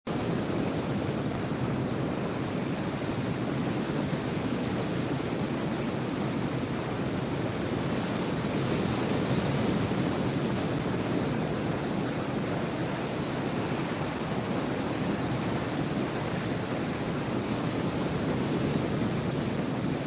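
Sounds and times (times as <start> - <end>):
ocean surf rushing: 0.1 - 20.0.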